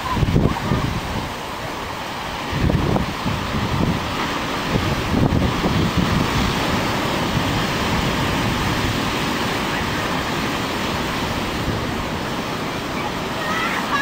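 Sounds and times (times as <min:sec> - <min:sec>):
surf breaking on rocky beach: 0:00.0 - 0:14.0
wind buffeting microphone: 0:00.0 - 0:14.0.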